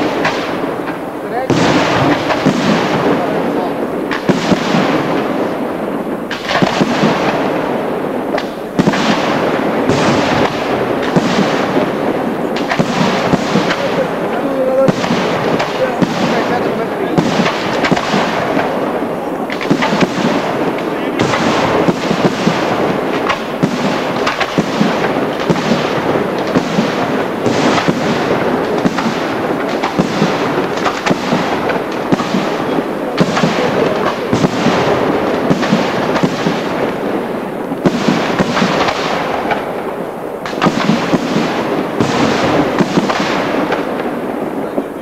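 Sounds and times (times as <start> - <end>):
firework shells bursting: 0.0 - 45.0.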